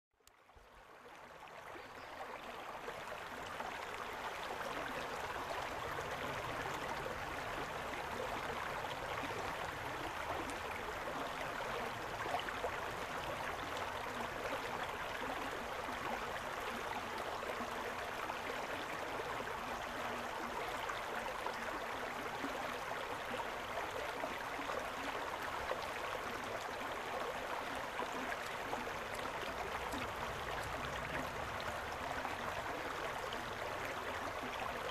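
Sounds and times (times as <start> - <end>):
stream babbling over stones: 0.3 - 34.9.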